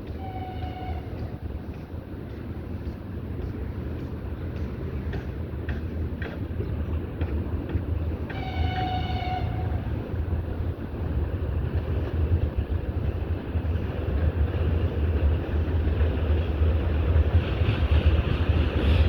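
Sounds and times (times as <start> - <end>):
freight train rumble: 0.0 - 19.0
wheels clicking over rail joints: 0.0 - 19.0.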